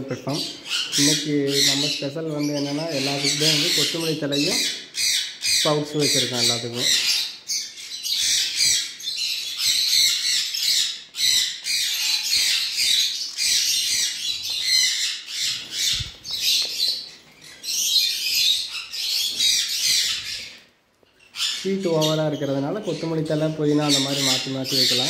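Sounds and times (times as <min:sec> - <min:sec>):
parrots squawking and chattering: 0:00.0 - 0:25.0.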